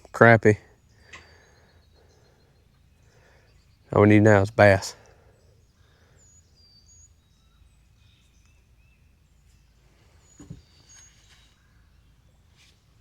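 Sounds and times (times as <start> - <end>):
birds whistling and chirping: 0.7 - 12.8.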